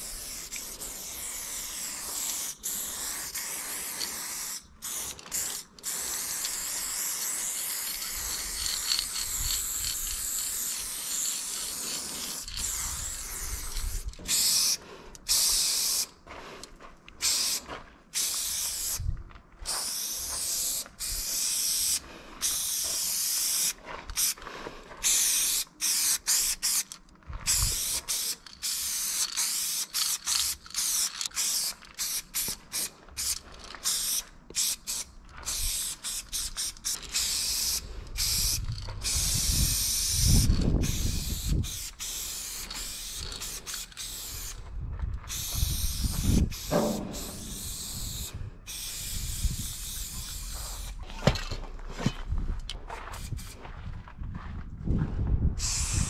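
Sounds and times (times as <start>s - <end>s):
spray paint can hissing: 0.0s - 16.2s, 17.2s - 24.4s, 25.0s - 44.6s, 45.3s - 51.4s, 53.1s - 53.6s, 55.6s - 56.0s.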